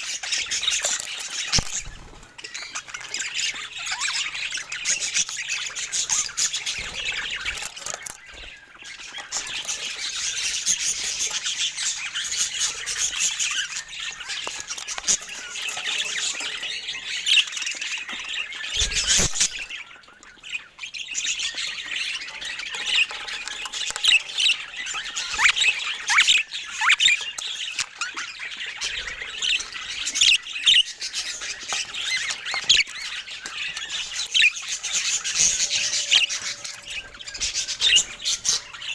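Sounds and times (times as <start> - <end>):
budgerigar chatter: 0.0 - 38.9.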